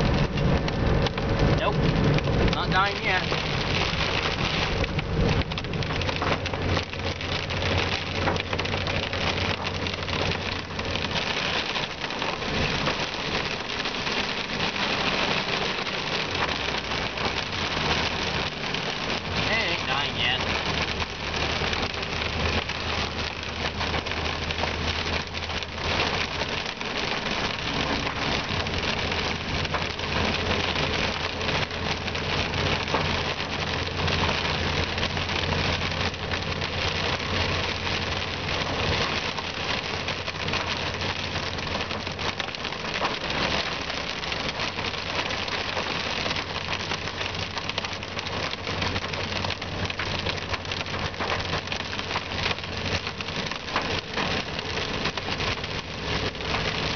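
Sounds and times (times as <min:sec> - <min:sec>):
car engine humming: 0:00.0 - 0:56.9
heavy rain on car roof: 0:00.0 - 0:56.9.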